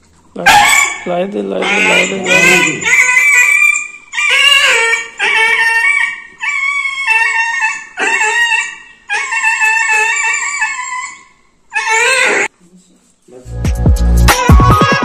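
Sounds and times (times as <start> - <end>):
puppy yelping: 0.4 - 12.5, 14.2 - 15.0.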